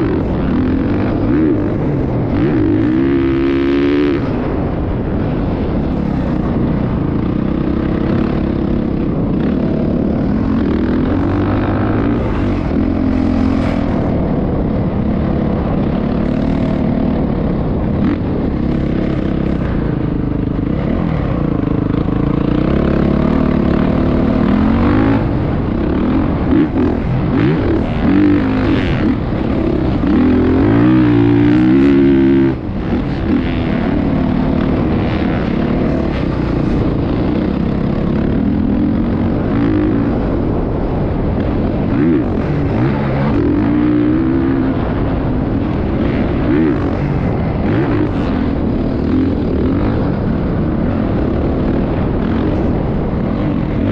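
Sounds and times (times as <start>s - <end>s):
motocross engine revving: 0.0s - 52.8s.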